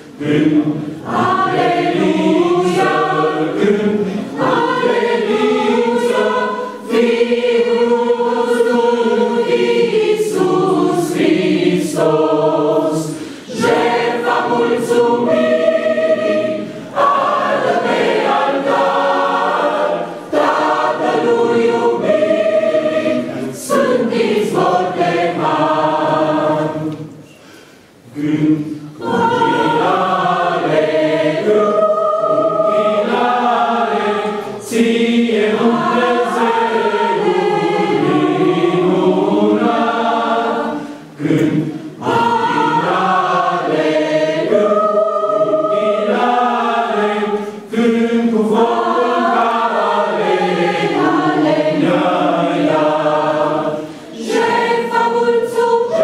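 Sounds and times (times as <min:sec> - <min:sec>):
mixed choir singing a hymn: 0:00.0 - 0:56.0.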